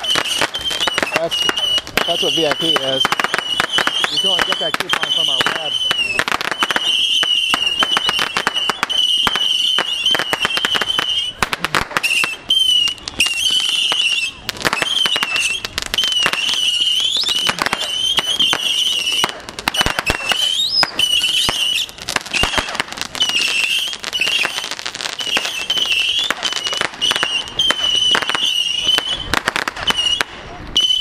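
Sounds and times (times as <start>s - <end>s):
fireworks cracking and popping: 0.0s - 31.0s.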